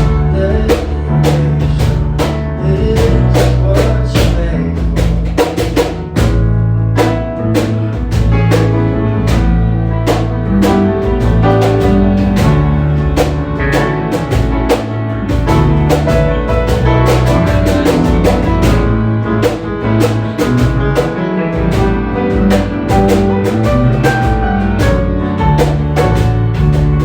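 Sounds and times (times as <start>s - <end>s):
bass guitar: 0.0s - 27.0s
drum kit beat: 0.0s - 27.0s
guitar: 0.0s - 27.0s.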